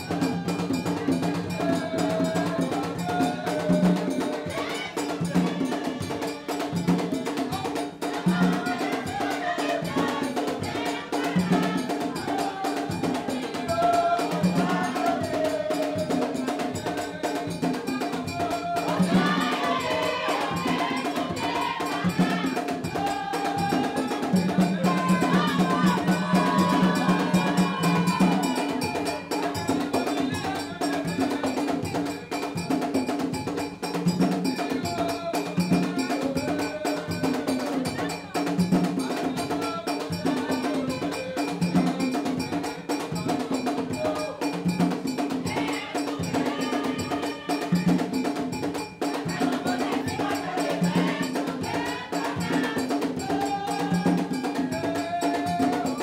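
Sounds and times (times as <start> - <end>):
drums: 0.0 - 56.0
group of voices singing: 0.0 - 56.0
ringing percussion strokes: 0.0 - 56.0.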